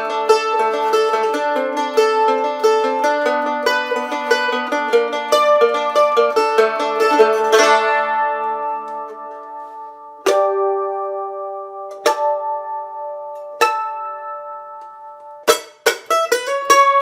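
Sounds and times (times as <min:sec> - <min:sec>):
mandolin picked and strummed: 0:00.0 - 0:17.0.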